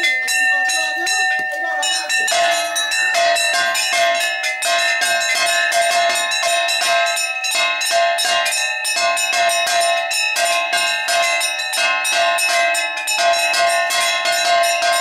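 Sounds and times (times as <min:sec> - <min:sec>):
metal bells rung rapidly: 0:00.0 - 0:15.0.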